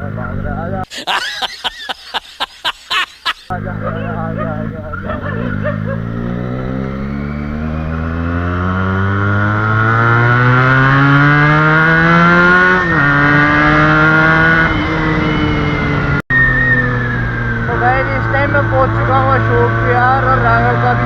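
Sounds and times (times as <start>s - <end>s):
motorcycle engine accelerating: 0.0s - 0.9s, 3.4s - 21.0s.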